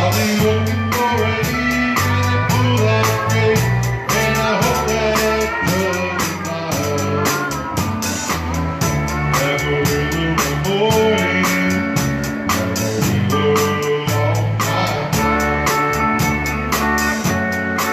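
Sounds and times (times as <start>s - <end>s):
band playing live: 0.0s - 17.9s
person singing: 0.0s - 17.9s.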